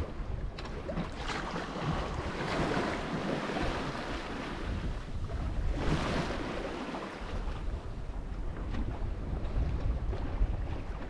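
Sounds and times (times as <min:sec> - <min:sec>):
sea rushing: 0:00.0 - 0:11.0
wind buffeting microphone: 0:00.0 - 0:11.0.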